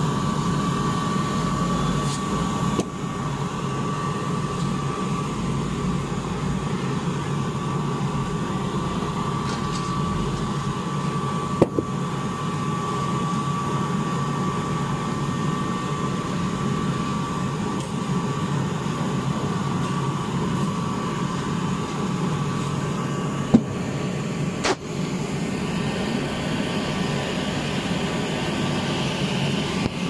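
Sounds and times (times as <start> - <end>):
blower drone with whine: 0.0 - 30.0.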